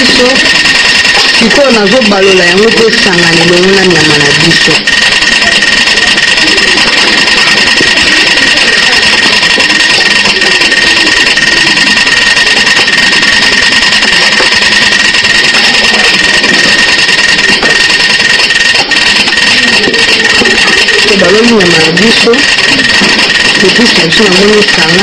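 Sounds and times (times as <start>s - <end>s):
machine noise with high whine: 0.0s - 25.0s.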